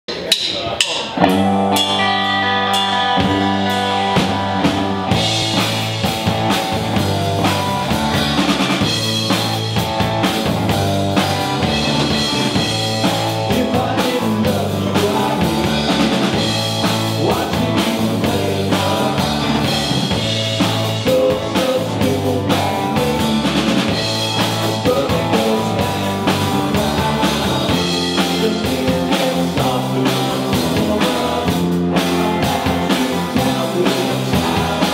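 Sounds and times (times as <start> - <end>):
keyboard: 0.0 - 34.9
bass guitar: 0.1 - 34.9
drum kit with cymbals: 0.1 - 34.9
electric guitar: 1.0 - 34.9.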